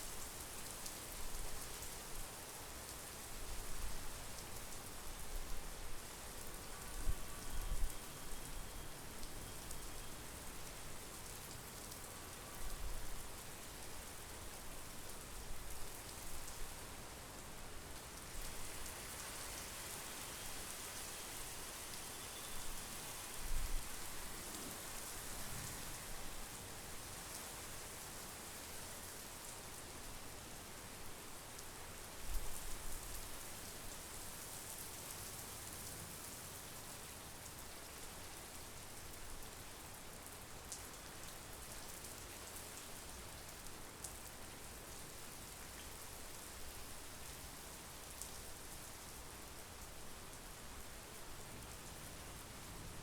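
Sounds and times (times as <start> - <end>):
rain falling on lake and trees: 0.0 - 53.0.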